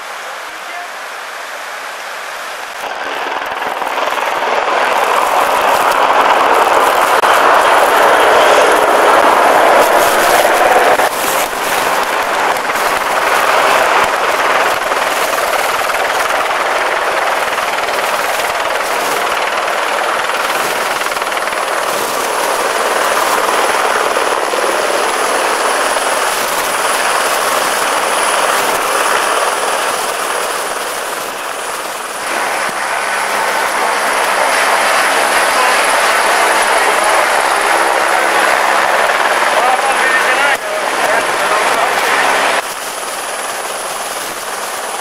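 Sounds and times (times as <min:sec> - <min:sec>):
helicopter rotor and engine: 0:00.0 - 0:45.0
rushing white water: 0:00.0 - 0:45.0.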